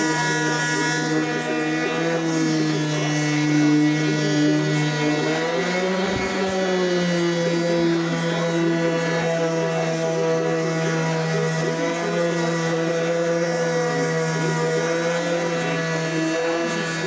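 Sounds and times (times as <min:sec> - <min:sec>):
orbit sander running: 0:00.0 - 0:17.0.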